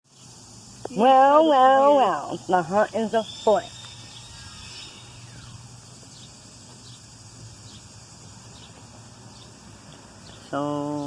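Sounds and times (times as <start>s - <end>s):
high-pitched background hiss: 0.0s - 11.0s
bird chirping: 0.1s - 11.0s.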